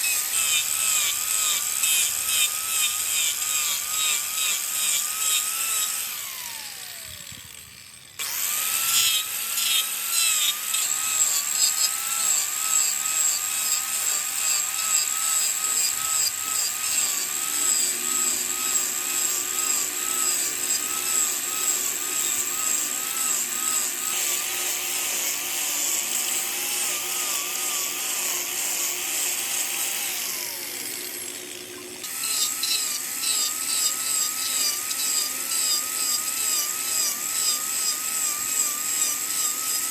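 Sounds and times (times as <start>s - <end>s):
wood lathe cutting spinning wood: 0.0s - 39.9s.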